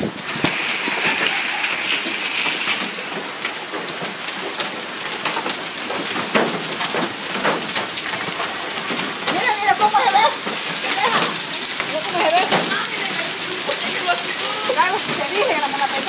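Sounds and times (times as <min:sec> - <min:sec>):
hail falling on lawn: 0:00.0 - 0:16.0.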